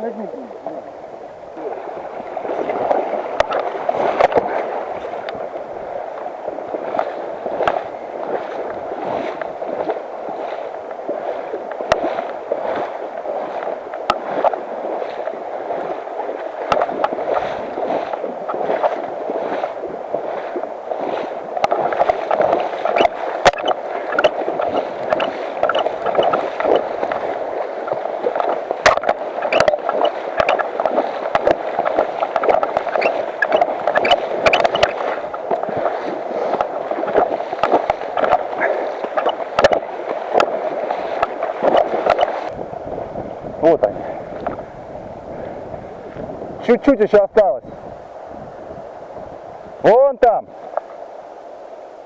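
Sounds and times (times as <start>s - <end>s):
river rushing over stones: 0.0s - 45.3s.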